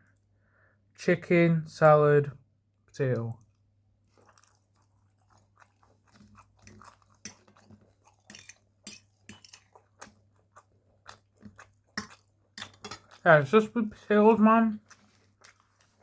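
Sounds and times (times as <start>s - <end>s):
close-up chewing with crunches: 3.2s - 16.0s.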